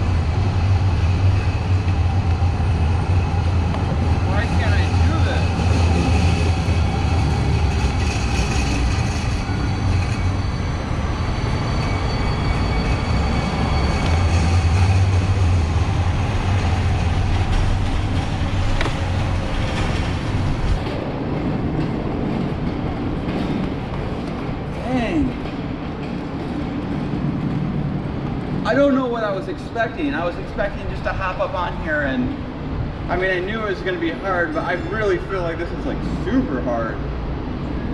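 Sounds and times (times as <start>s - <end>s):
light rail train passing: 0.0s - 37.9s.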